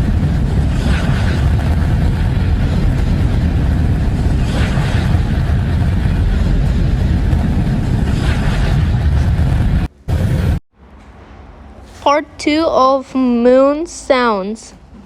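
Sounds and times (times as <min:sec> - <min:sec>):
deep rumbling noise: 0:00.0 - 0:12.8.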